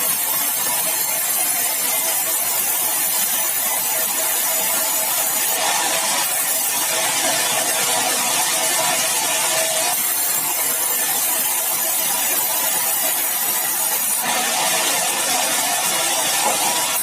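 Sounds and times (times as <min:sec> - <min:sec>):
sawmill saw running: 0:00.0 - 0:17.0.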